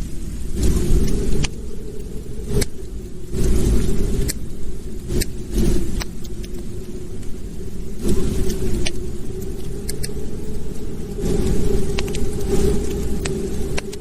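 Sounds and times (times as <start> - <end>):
fire crackles and pops: 0.0 - 14.0
wood fire rumbling: 0.0 - 14.0.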